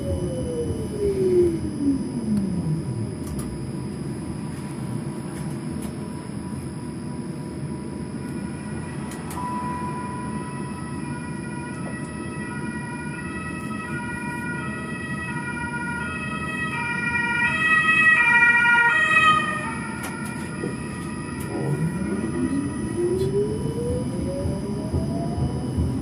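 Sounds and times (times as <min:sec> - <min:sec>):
emergency vehicle siren: 0:00.0 - 0:04.2, 0:06.2 - 0:26.0
tram cab rumble: 0:00.0 - 0:26.0.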